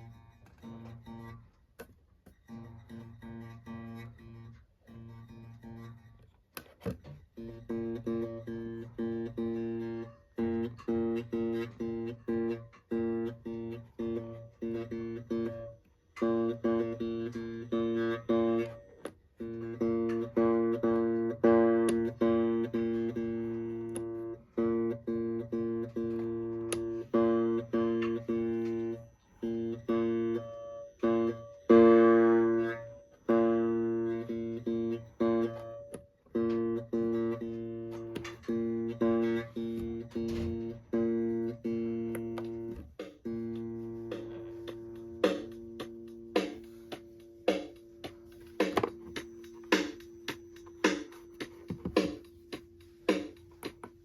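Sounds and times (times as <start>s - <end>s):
electric guitar strummed chords: 7.3s - 18.8s, 19.4s - 54.0s.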